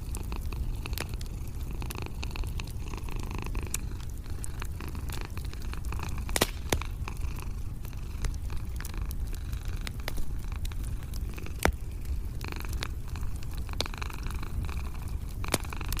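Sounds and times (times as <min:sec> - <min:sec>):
cat purring: 0:00.0 - 0:16.0
crackling wood fire: 0:00.0 - 0:16.0.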